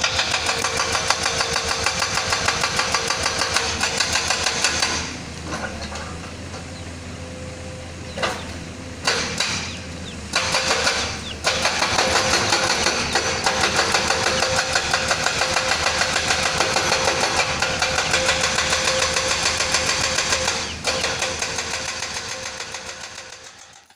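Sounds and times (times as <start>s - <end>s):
hydraulic breaker hammering: 0.0s - 7.0s, 7.8s - 23.9s
diesel engine running: 0.0s - 23.9s.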